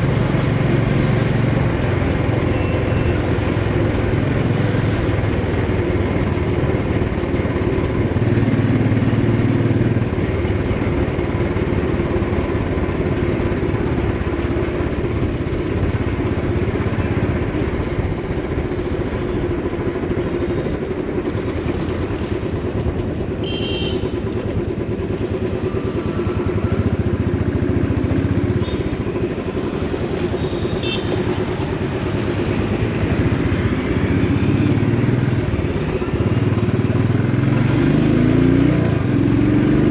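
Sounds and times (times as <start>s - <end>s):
motorcycle engine running: 0.0s - 39.9s
traffic sounds: 0.0s - 39.9s.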